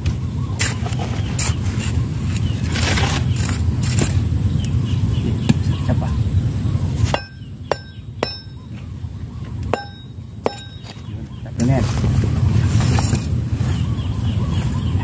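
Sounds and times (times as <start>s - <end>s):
steady low rumble: 1.6s - 15.0s.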